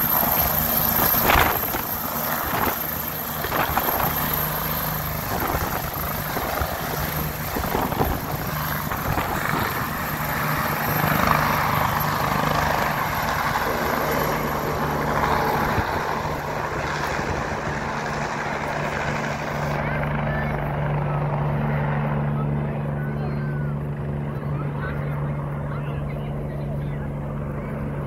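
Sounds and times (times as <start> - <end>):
helicopter rotor and engine: 0.0 - 28.0
high turbine whine: 0.0 - 28.0.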